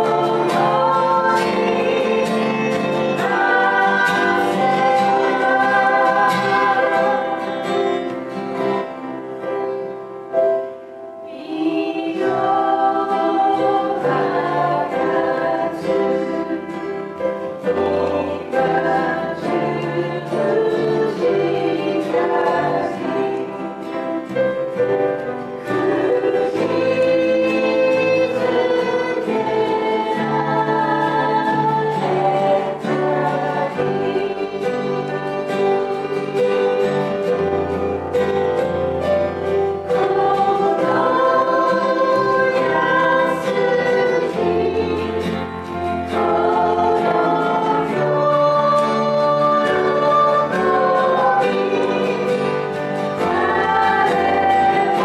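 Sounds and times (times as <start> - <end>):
person singing: 0.0 - 8.2, 11.2 - 38.8, 39.4 - 55.0
acoustic and electric guitar: 0.0 - 55.0.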